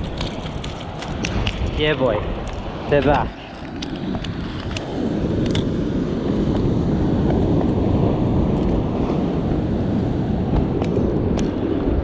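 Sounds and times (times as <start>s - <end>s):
ocean surf washing over rocks: 0.0s - 12.0s
wind buffeting microphone: 0.0s - 12.0s.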